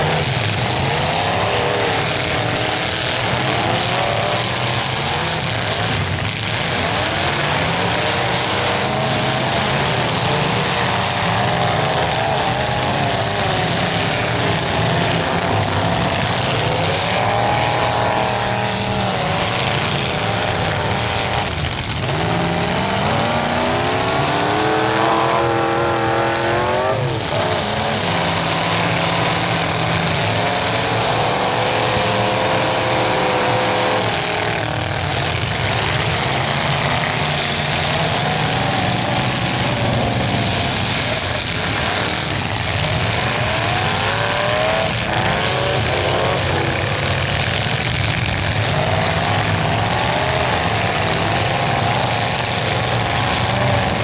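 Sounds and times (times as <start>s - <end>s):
car engines revving hard: 0.0s - 54.0s.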